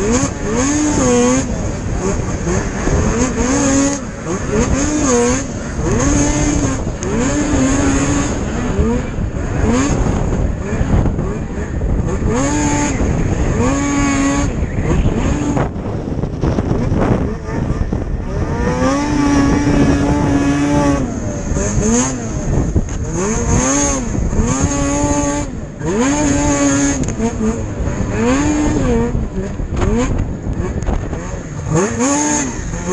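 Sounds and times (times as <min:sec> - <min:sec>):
snowmobile engine revving: 0:00.0 - 0:32.9.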